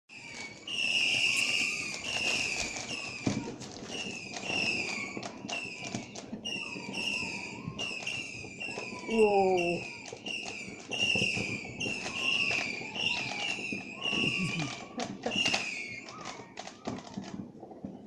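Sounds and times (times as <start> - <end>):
firework bangs and crackles: 0.1 - 18.0
firework whistles: 0.1 - 18.0.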